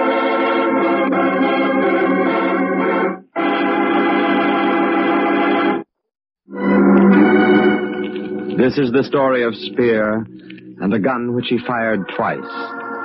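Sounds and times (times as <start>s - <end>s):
held organ chord: 0.0s - 5.8s, 6.5s - 13.0s.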